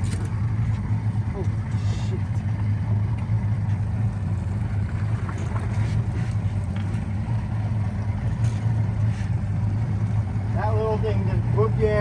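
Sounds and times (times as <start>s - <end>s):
motorboat engine humming: 0.0s - 12.0s.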